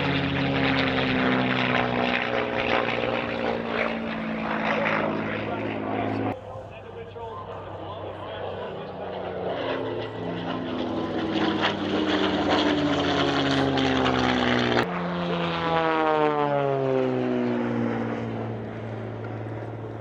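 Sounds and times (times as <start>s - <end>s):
propeller plane flying past: 0.0s - 20.0s.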